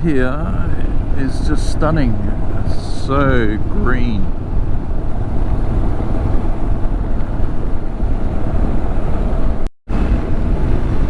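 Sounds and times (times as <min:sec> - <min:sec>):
motorcycle engine: 0:00.0 - 0:11.0
wind rush over microphone: 0:00.0 - 0:11.0.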